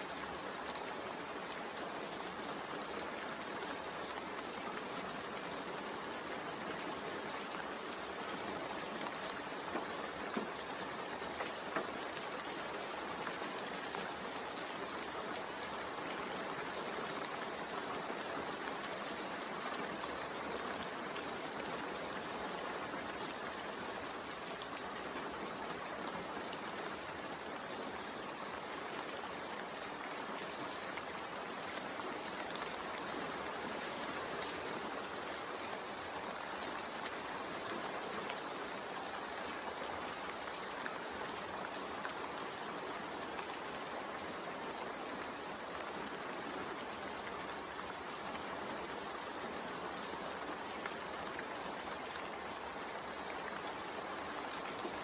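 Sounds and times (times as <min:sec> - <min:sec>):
rain ticks: 0:00.0 - 0:55.0
steady rain hiss: 0:00.0 - 0:55.0.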